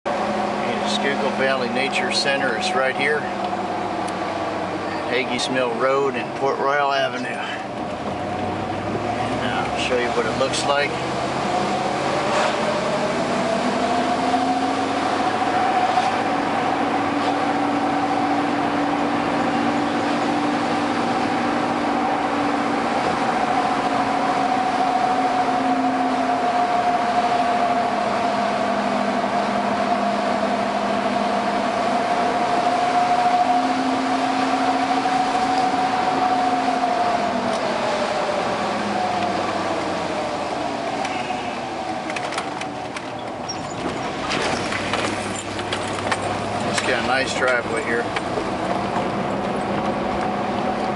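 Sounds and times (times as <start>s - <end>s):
engine and drivetrain whine: 0.0s - 50.9s
road noise: 0.0s - 50.9s.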